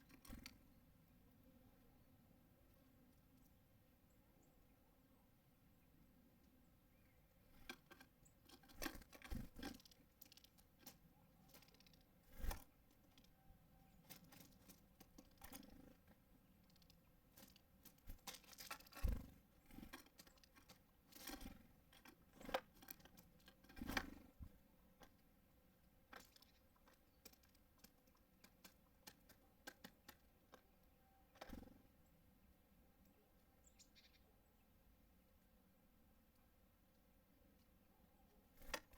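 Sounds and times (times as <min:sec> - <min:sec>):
birds pecking at seed: 0:00.0 - 0:01.5, 0:05.7 - 0:34.3, 0:35.4 - 0:38.9.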